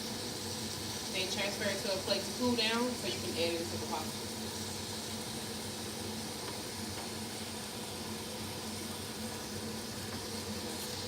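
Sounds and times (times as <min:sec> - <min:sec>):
chicken sizzling in a skillet: 0:00.0 - 0:11.0.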